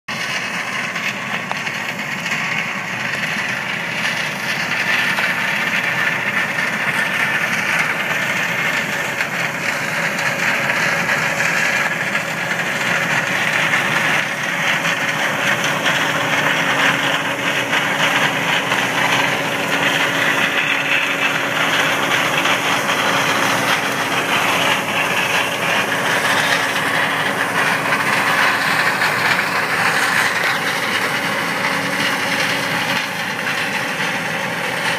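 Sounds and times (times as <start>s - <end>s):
combine harvester machinery: 0.1s - 34.9s.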